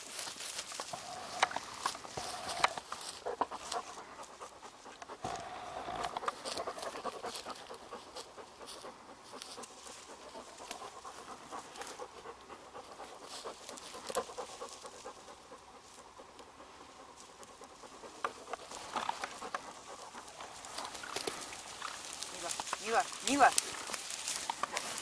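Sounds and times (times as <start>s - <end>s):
dry grass crackling and rustling: 0.0s - 25.0s
dog panting: 0.1s - 25.0s.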